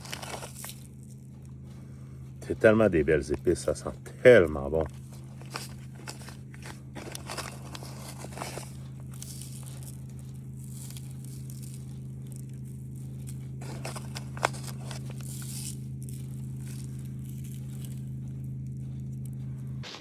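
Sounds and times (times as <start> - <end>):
rustling and crinkling handling: 0.0 - 19.6
steady low hum: 0.0 - 20.0.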